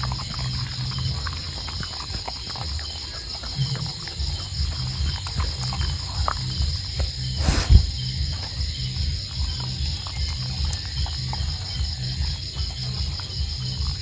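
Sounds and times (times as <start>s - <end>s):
dog chewing: 0.0s - 14.0s
dog grunting: 0.0s - 14.0s.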